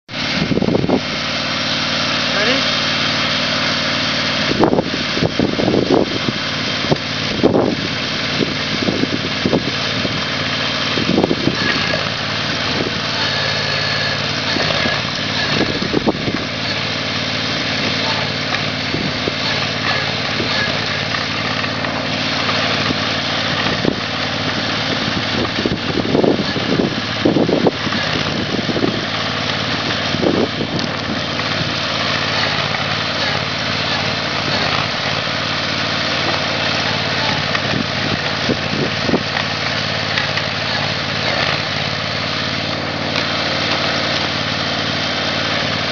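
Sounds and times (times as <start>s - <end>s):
hydraulic earth auger boring: 0.0s - 45.9s
loader engine running: 0.0s - 45.9s.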